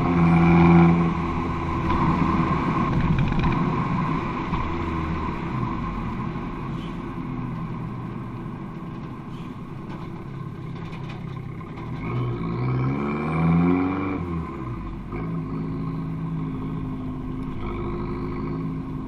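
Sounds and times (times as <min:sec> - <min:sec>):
car engine revving: 0:00.0 - 0:09.5, 0:10.5 - 0:19.0.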